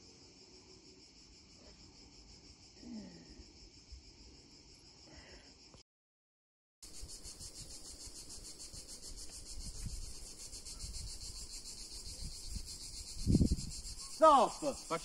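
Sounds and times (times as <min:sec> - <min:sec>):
high-pitched insect chorus: 0:00.0 - 0:05.8, 0:06.8 - 0:15.0.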